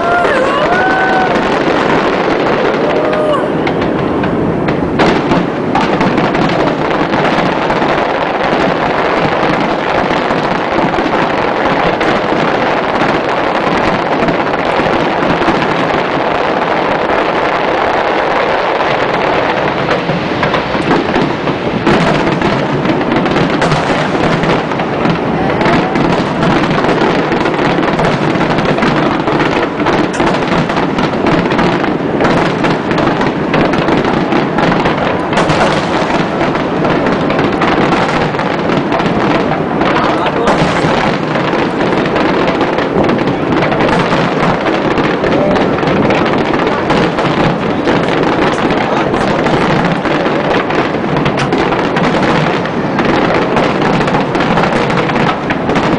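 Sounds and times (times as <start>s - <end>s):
fireworks bursting and crackling: 0.0s - 55.9s
sharp firework bangs: 0.0s - 55.9s.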